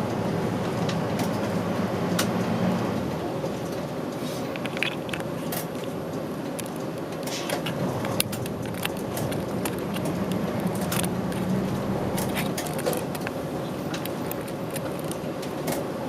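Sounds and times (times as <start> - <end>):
bus diesel engine droning: 0.0 - 16.0
rattles from bus body: 0.0 - 16.0.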